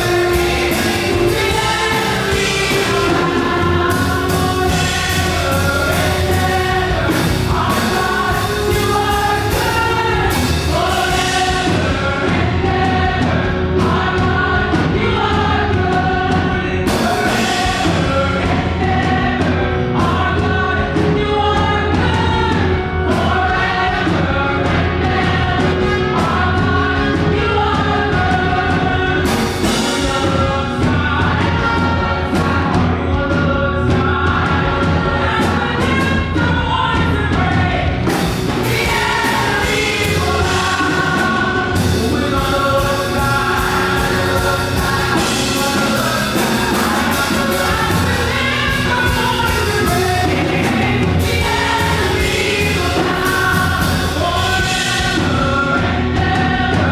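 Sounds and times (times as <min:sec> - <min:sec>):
band with bass and drums: 0:00.0 - 0:56.9
group singing gospel song: 0:00.0 - 0:56.9.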